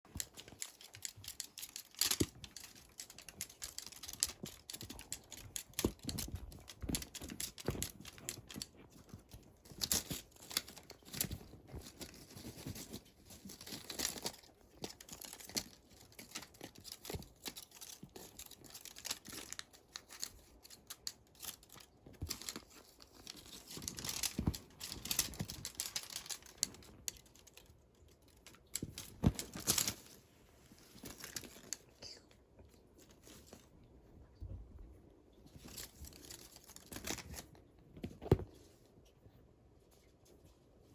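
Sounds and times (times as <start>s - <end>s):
rustling and scratching: 0.0s - 40.9s.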